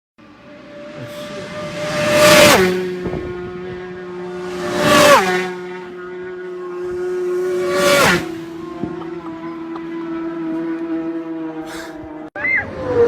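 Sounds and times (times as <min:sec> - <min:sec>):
motorcycles passing at high speed: 0:00.2 - 0:13.0.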